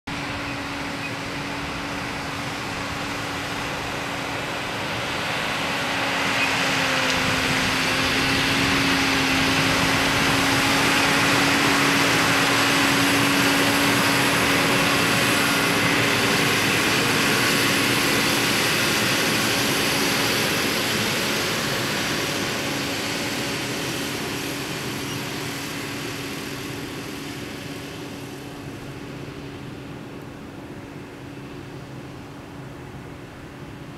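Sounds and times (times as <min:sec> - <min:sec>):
spreader truck engine humming: 0:00.1 - 0:33.9.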